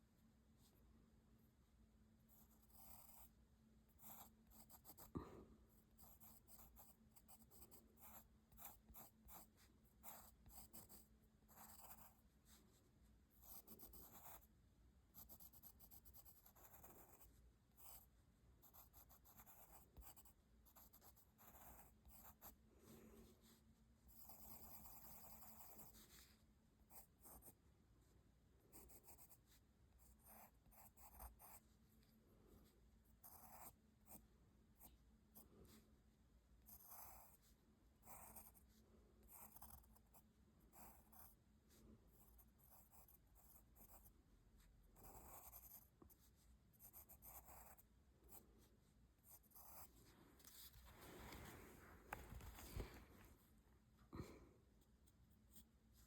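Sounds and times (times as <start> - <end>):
pencil scratching on paper: 2.3 - 27.6, 28.7 - 35.8, 36.6 - 51.2.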